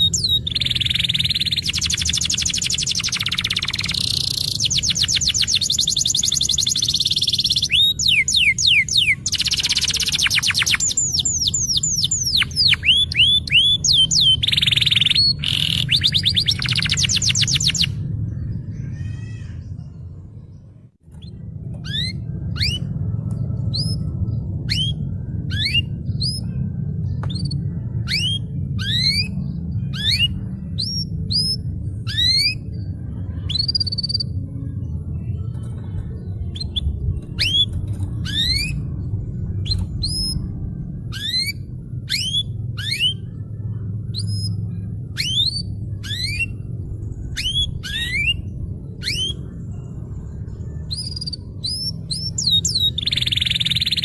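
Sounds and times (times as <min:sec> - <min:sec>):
canary singing: 0:00.0 - 0:54.0
low steady rumble: 0:00.0 - 0:54.0.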